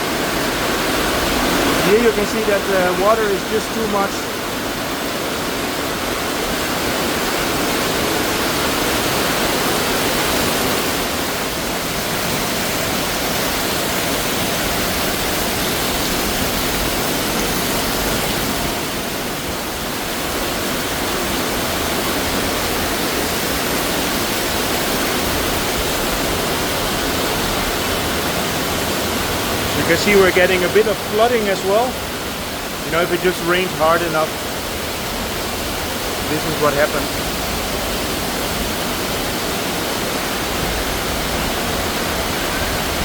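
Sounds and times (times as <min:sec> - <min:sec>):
heavy rain pouring: 0:00.0 - 0:43.0
water streaming and splashing: 0:00.0 - 0:43.0.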